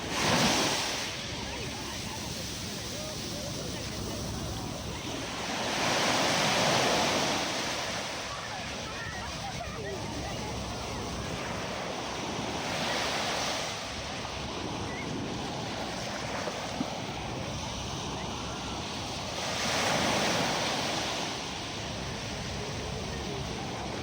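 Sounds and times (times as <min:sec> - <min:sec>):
sea waves washing onto beach: 0:00.0 - 0:24.0.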